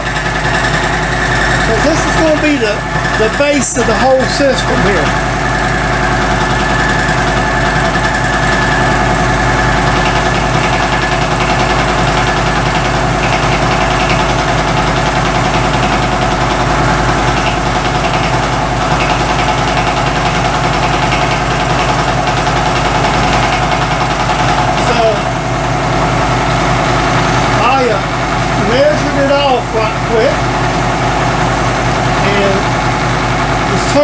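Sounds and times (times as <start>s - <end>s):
milling machine humming: 0.0s - 34.0s.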